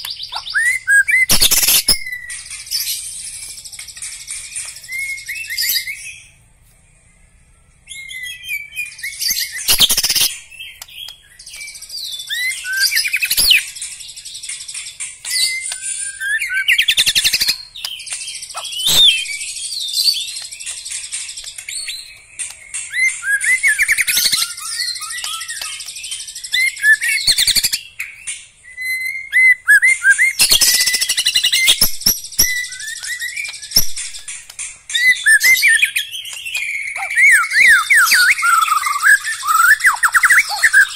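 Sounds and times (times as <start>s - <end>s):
songbird singing whistles and trills: 0.0s - 6.4s, 7.1s - 40.9s.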